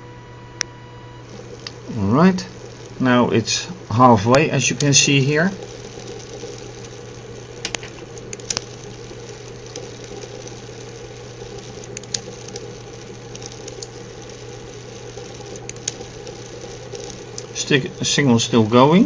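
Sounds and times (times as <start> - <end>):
small electric motor humming: 0.0 - 19.0
faint clicks: 0.6 - 18.2.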